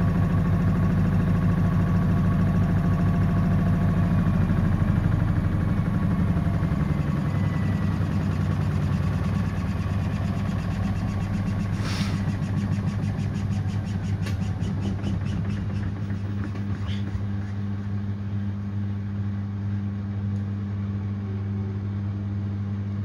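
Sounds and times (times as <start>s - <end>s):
washing machine hum with flutter: 0.0s - 23.0s.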